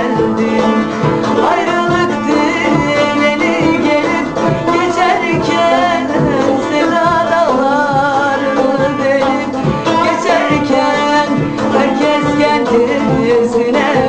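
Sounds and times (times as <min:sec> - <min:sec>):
steady beat: 0:00.0 - 0:14.0
strummed string instrument: 0:00.0 - 0:14.0
woman singing: 0:00.0 - 0:14.0.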